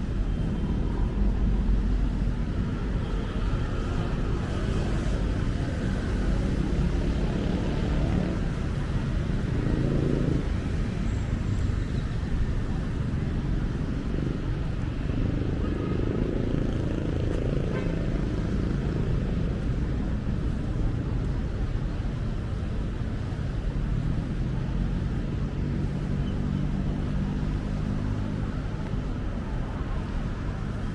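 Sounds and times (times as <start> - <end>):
passing cars and motorcycles: 0.0 - 30.9.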